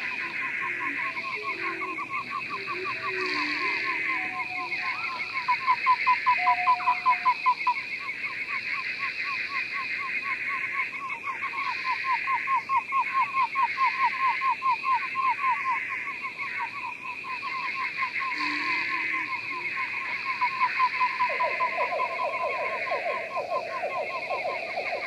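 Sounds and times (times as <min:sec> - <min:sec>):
frog chorus: 0:00.0 - 0:25.0
frogs croaking descending calls: 0:00.0 - 0:25.0.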